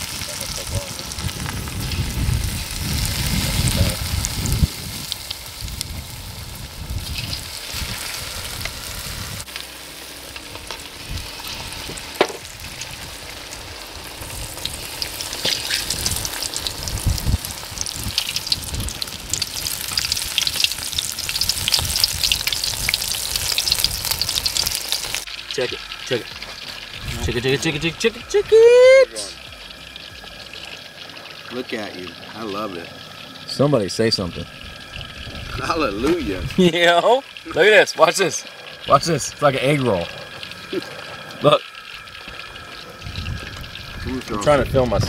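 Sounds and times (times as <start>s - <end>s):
oil sizzling and crackling: 0.0s - 45.0s.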